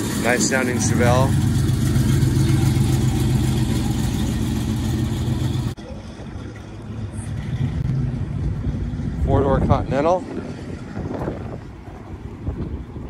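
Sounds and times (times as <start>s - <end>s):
car engine idling: 0.0s - 12.4s
outdoor background noise: 0.0s - 13.0s.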